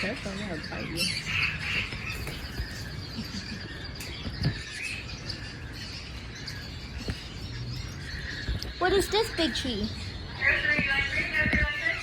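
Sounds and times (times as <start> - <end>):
caged birds chirping: 0.0 - 12.0
high bird trill: 0.0 - 12.0.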